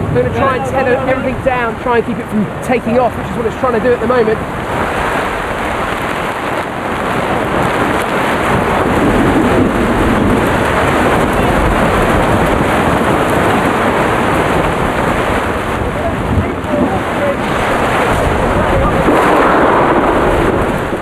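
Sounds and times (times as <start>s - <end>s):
gusting wind: 0.0s - 21.0s
torrential rain on tent: 0.0s - 21.0s.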